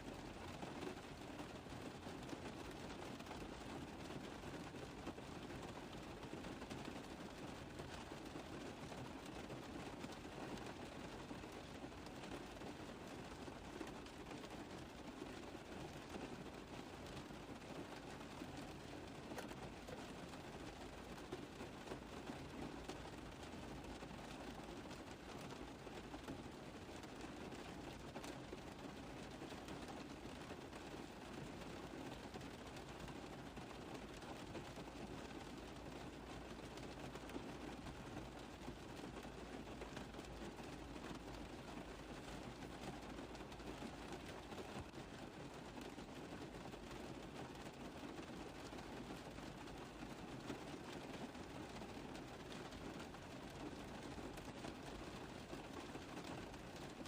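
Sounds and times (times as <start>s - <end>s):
rain tapping on a car roof: 0.0s - 57.0s.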